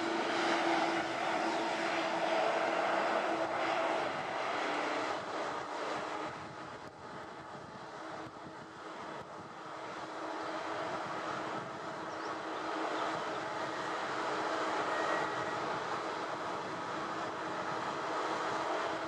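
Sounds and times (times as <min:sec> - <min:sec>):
rail traffic rumble: 0:00.0 - 0:19.0.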